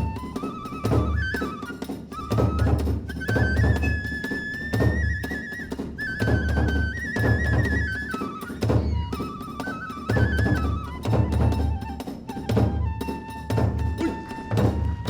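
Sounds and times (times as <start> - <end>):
bamboo flute melody: 0.0 - 15.0.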